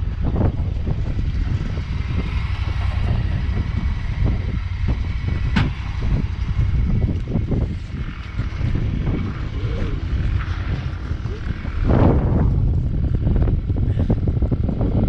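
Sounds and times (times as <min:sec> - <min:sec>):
vehicle driving over sand: 0:00.0 - 0:15.0
wind buffeting microphone: 0:00.0 - 0:15.0.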